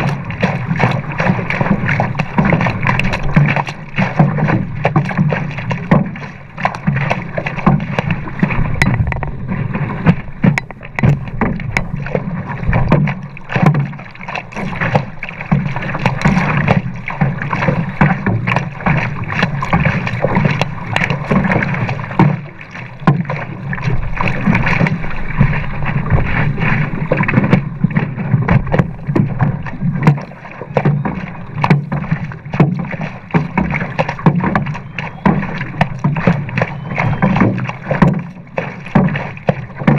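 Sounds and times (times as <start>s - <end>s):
paddle splashes: 0.0s - 39.9s
water rushing along board: 0.0s - 39.9s.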